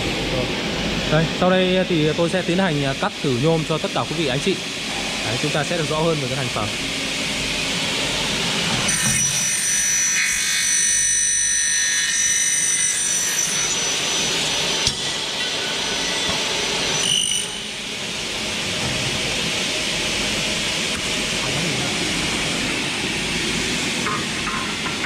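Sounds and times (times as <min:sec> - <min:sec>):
aluminium cutting saw whine: 0:02.9 - 0:25.0.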